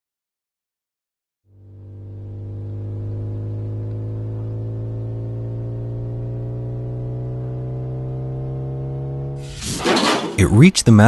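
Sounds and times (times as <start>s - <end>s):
synthesized car engine hum: 1.5s - 11.0s.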